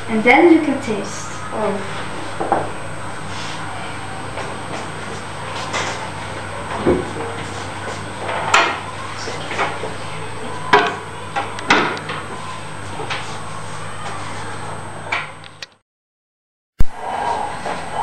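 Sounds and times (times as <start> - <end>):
steady low hum: 0.0 - 15.7, 16.8 - 18.0.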